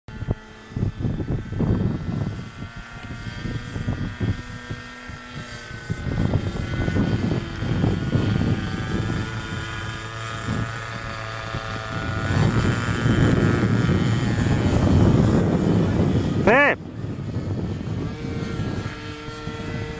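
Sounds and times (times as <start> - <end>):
model airplane motor droning: 0.1 - 19.9
wind buffeting microphone: 0.1 - 19.9.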